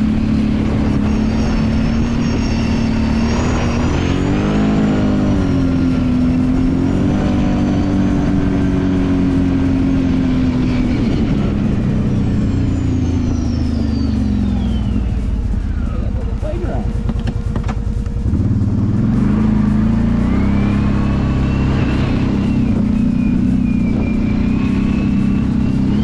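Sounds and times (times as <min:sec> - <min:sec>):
atv engine under throttle: 0:00.0 - 0:26.0.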